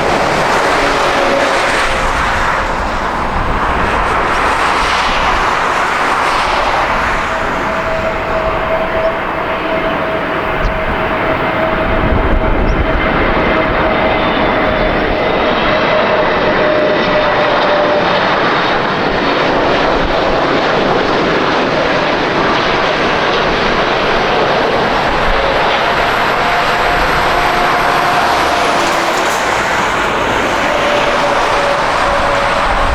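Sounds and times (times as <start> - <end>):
faint jet engine whine: 0.0 - 32.9
jet engine rush: 0.0 - 32.9.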